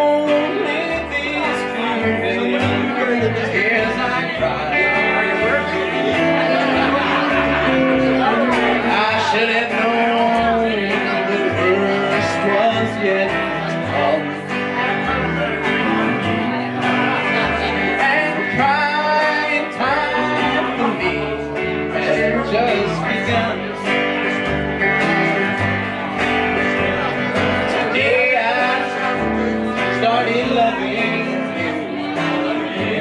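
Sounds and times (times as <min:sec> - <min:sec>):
guitar: 0:00.0 - 0:33.0
upright bass: 0:00.0 - 0:33.0.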